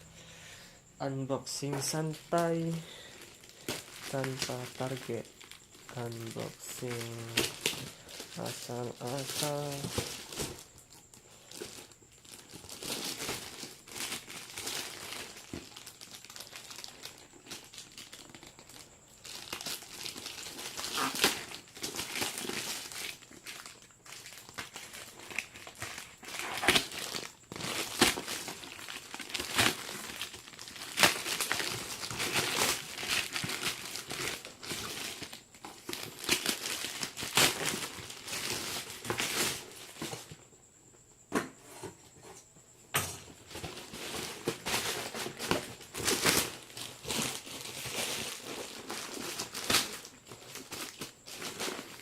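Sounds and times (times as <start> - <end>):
plastic packaging crinkling: 1.4 - 40.3, 43.4 - 52.0.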